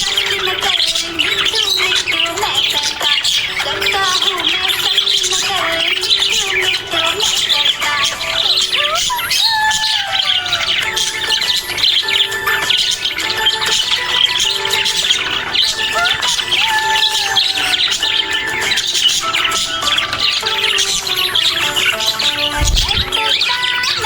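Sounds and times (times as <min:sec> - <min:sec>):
budgerigars chirping and warbling: 0:00.0 - 0:24.0.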